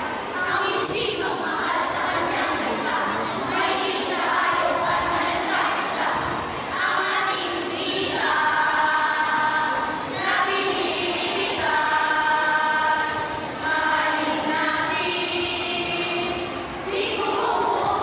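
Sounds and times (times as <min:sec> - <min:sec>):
children chanting in unison: 0:00.0 - 0:18.0.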